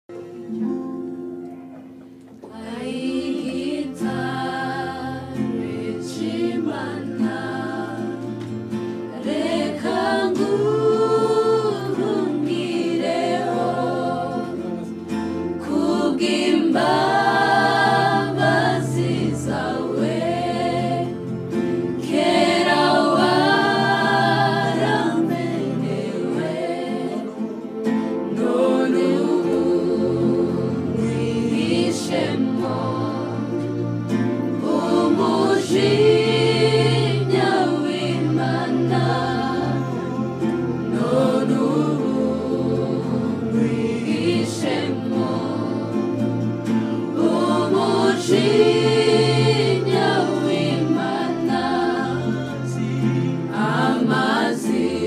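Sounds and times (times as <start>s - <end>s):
women singing gospel song: 2.4s - 55.0s.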